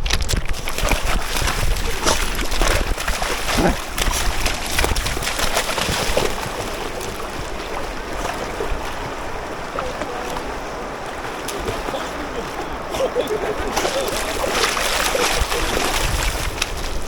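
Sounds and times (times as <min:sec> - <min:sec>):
river water rushing: 0:00.6 - 0:17.0.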